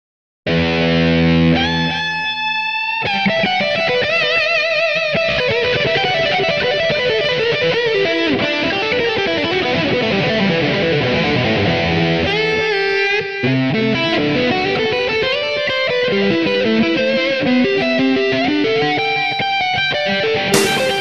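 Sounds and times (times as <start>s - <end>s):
electric guitar melody: 0.5s - 21.0s.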